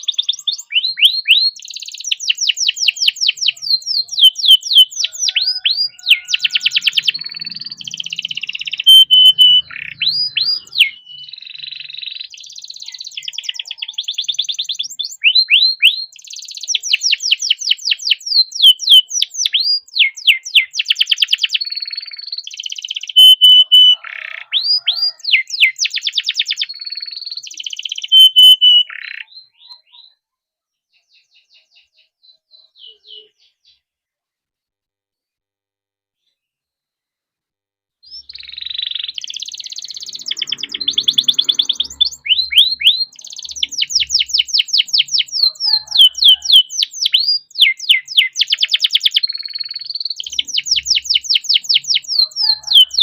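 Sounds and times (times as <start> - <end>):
canary singing: 0.0 - 30.3, 30.9 - 33.9, 38.0 - 53.0.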